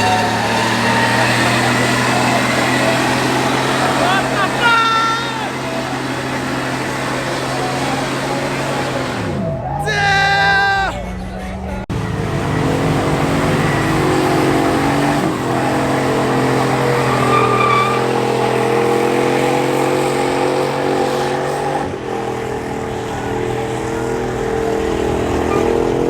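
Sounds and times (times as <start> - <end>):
truck engine revving high: 0.0 - 26.0.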